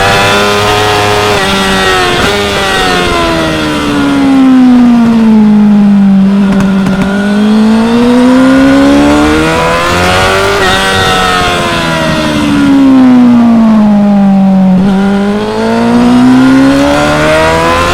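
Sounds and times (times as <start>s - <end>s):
gear change: 0.0s - 17.9s
motorcycle engine accelerating: 0.0s - 17.9s.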